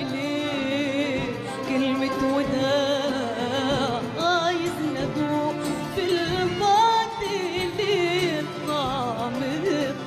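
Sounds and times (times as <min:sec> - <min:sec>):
woman singing with vibrato: 0:00.0 - 0:10.0.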